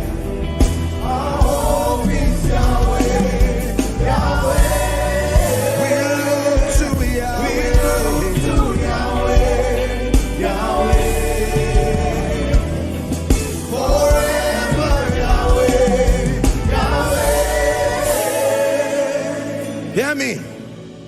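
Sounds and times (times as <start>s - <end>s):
voices singing together: 0.0s - 20.1s
instrumental backing with steady beat: 0.0s - 21.0s.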